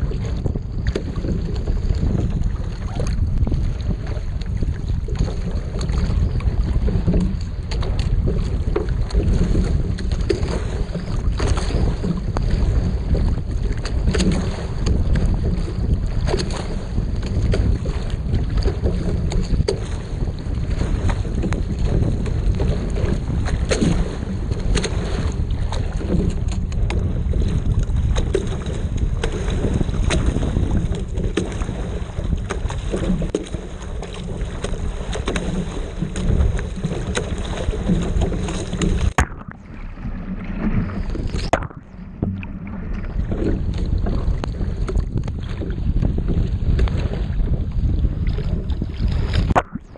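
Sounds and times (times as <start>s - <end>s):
water splashing against boat hull: 0.0s - 49.9s
wind buffeting microphone: 0.0s - 49.9s.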